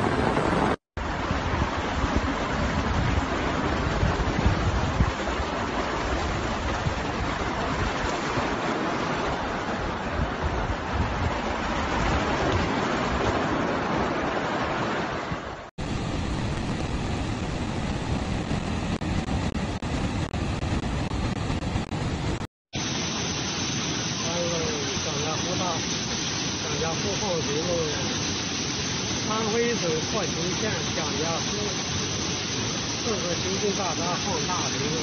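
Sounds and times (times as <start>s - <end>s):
floodwater rushing down a street: 1.0s - 17.6s, 22.8s - 35.0s
dam spillway water rushing: 1.0s - 35.0s.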